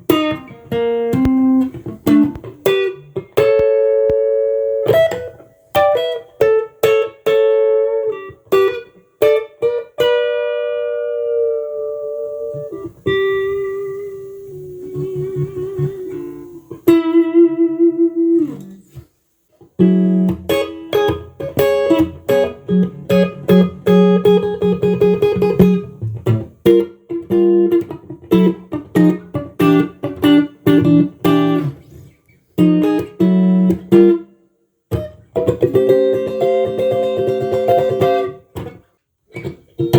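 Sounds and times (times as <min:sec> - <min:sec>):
electric guitar playing: 0:00.0 - 0:19.1, 0:19.8 - 0:34.3, 0:34.9 - 0:39.9.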